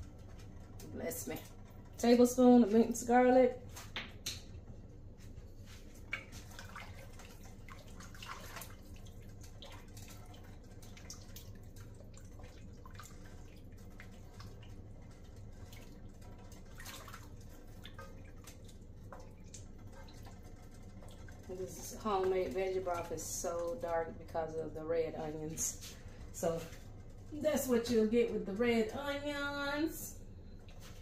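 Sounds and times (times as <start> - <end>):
steady low hum: 0.0 - 31.0
broth sloshing in a pot: 4.5 - 29.7.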